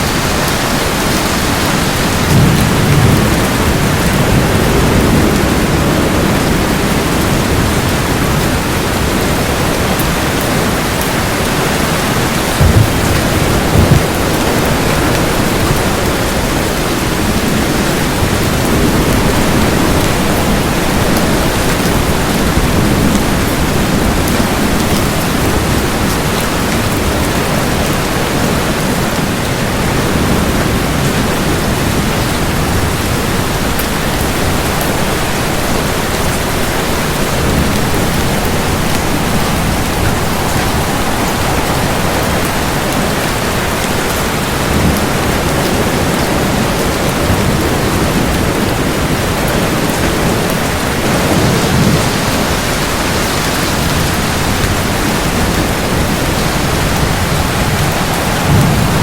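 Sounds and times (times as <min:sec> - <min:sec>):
heavy rain: 0:00.0 - 0:59.0
low thunder rumbles: 0:00.0 - 0:59.0.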